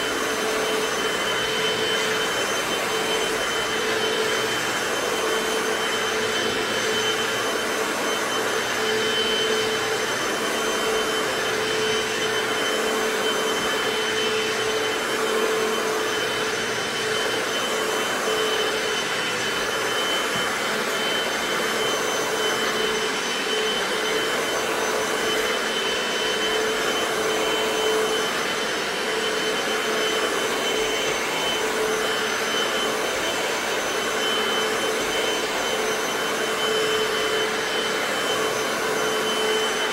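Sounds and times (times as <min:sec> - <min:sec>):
floor cleaner motor whining: 0:00.0 - 0:39.9.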